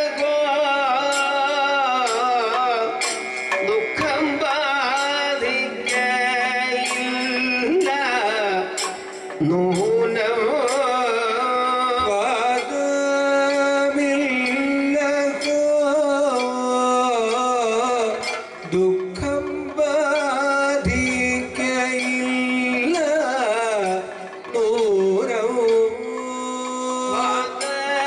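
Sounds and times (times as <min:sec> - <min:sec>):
man singing long wavering notes: 0:00.0 - 0:28.0.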